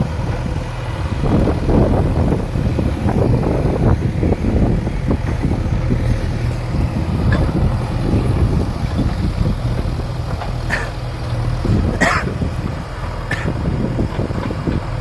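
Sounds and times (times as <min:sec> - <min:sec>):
backhoe diesel engine running: 0:00.0 - 0:15.0.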